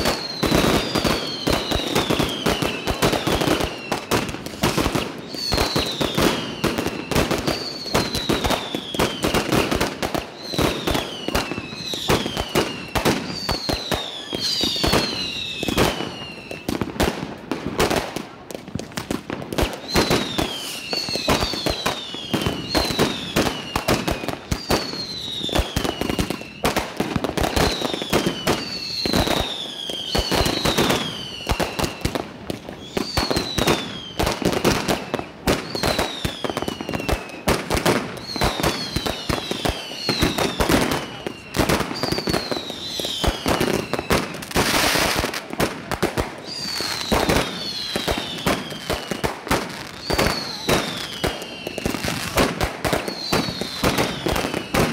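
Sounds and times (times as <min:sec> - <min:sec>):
whistling fireworks: 0:00.0 - 0:54.9.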